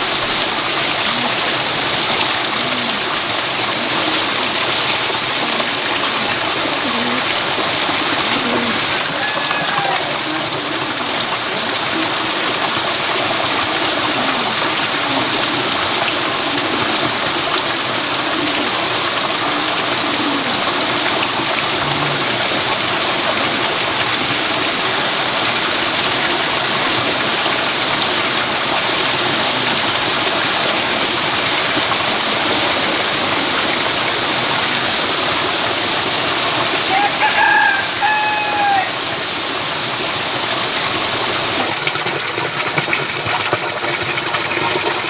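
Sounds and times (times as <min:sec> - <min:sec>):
running water rushing: 0:00.0 - 0:45.0.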